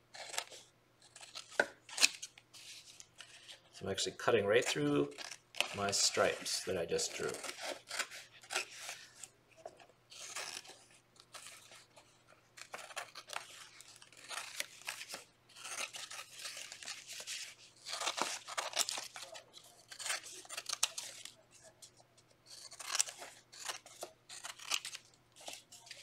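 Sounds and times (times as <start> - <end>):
scissors cutting paper: 0.1 - 2.3, 4.6 - 26.0.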